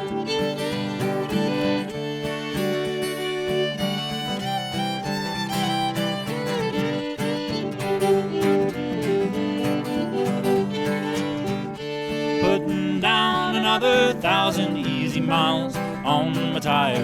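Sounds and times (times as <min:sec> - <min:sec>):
fiddle melody: 0:00.0 - 0:17.0
strummed acoustic guitar: 0:00.0 - 0:17.0.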